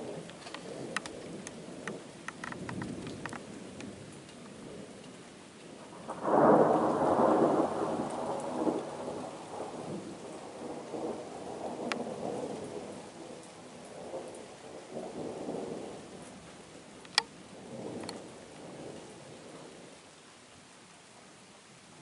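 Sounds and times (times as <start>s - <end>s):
thunder rumbling: 0.0s - 5.0s, 5.7s - 19.9s
rain falling: 0.0s - 22.0s.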